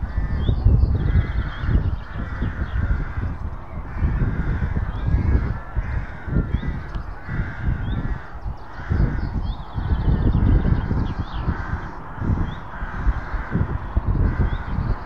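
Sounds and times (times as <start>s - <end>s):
crows cawing: 0.0s - 15.0s
small birds chirping: 0.0s - 15.0s.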